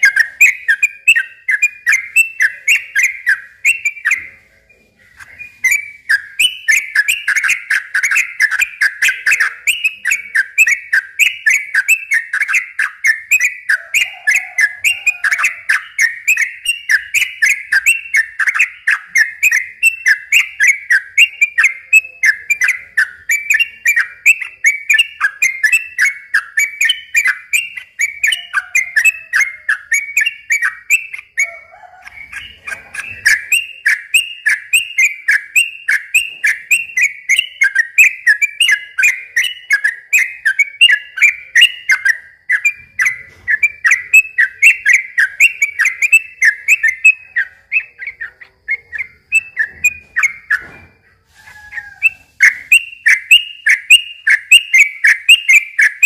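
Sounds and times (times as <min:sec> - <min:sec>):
bird singing bubbling whistled notes: 0:05.4 - 0:50.7, 0:51.6 - 0:56.0.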